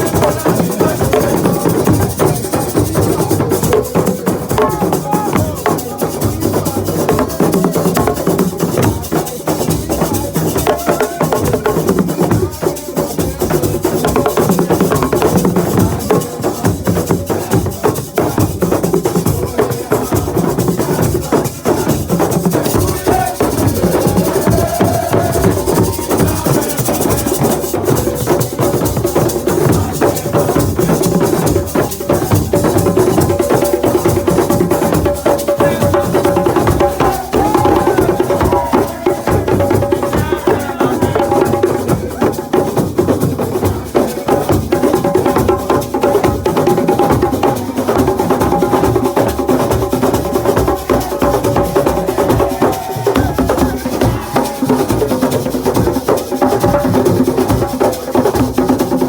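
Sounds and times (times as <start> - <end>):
voices singing: 0.0 - 43.0, 43.7 - 58.7
drums and hand percussion: 0.0 - 59.0.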